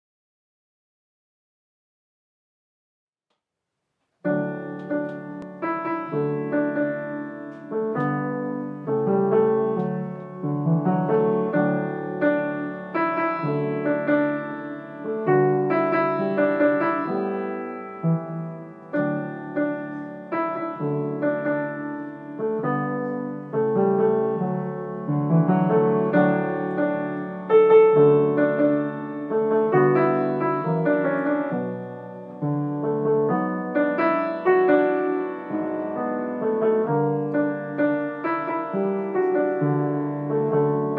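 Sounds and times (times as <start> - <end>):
solo grand piano: 4.2 - 40.9.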